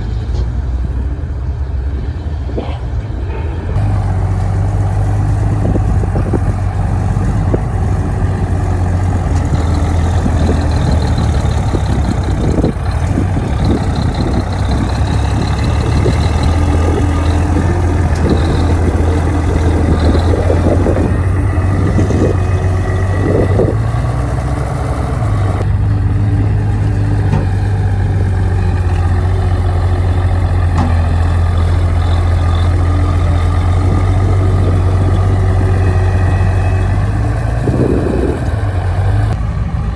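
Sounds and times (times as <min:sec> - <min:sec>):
bulldozer diesel engine running: 0:00.0 - 0:39.9
knocks and clanks: 0:02.6 - 0:25.7, 0:26.5 - 0:37.1.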